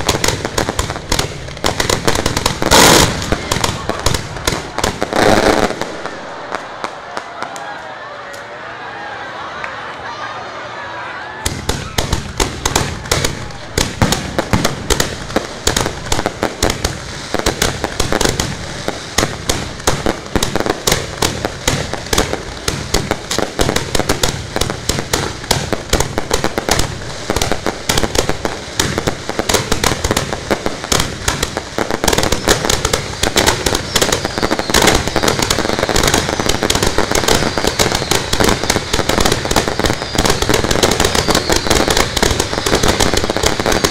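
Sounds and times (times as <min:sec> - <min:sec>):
fireworks bangs and crackles: 0:00.0 - 0:07.8, 0:11.4 - 0:43.9.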